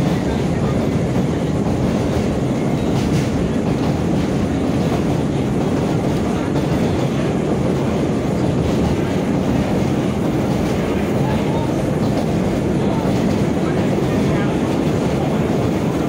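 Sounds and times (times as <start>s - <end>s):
subway car wheels rumbling: 0.0s - 16.0s
wheels clacking over rail joints: 0.0s - 16.0s.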